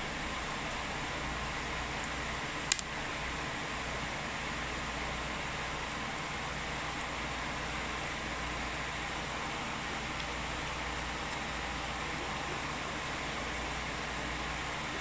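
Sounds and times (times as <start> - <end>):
fan whirring hiss: 0.0 - 15.0.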